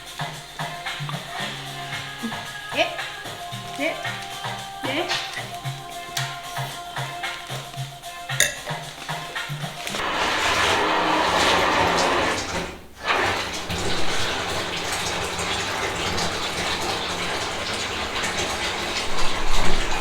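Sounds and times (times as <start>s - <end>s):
tap water running: 0.0s - 20.0s.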